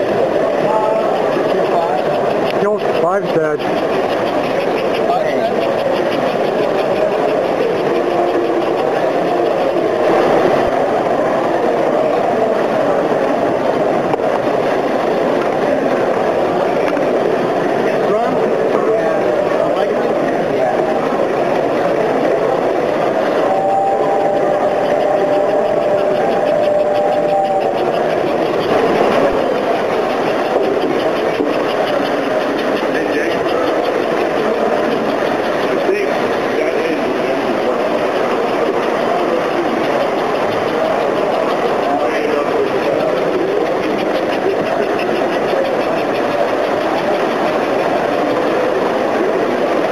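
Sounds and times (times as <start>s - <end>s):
model train motors whirring: 0.0s - 49.9s
wheels rumbling on rails: 0.0s - 49.9s.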